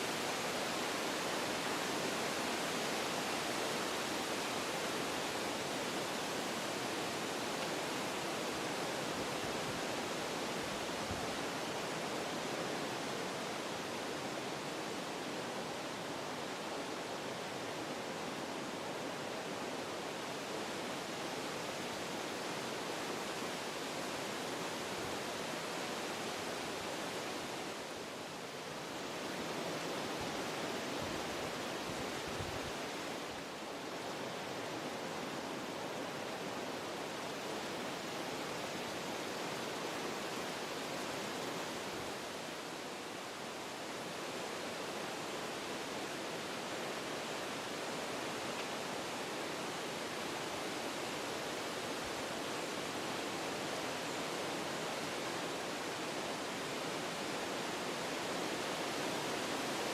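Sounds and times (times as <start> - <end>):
wind blowing through trees: 0.0 - 59.9.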